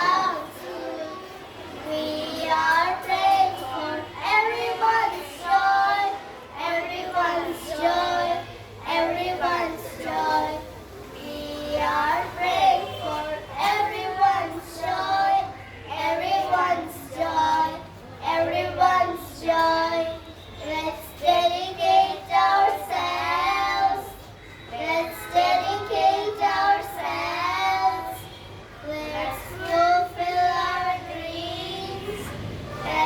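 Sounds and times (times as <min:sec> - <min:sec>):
child singing: 0:00.0 - 0:33.0.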